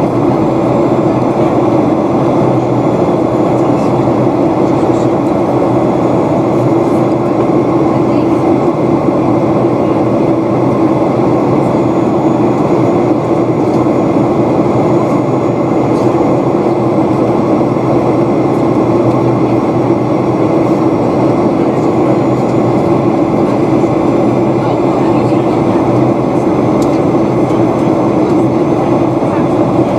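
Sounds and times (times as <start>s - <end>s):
airplane cabin drone: 0.0s - 29.9s.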